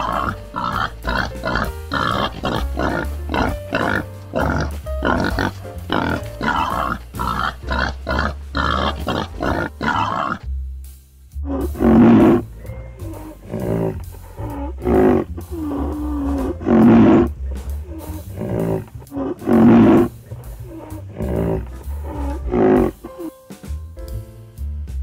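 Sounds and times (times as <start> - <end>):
animal grunts: 0.0 - 10.4, 11.5 - 23.3
large animal roaring: 0.0 - 10.4, 11.5 - 23.1
background music: 0.0 - 25.0.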